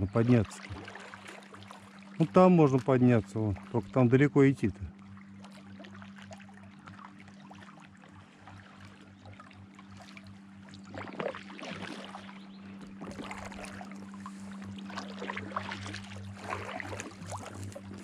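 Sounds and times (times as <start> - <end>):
paddles splashing water: 0.0 - 18.0
steady low hum: 0.0 - 18.0.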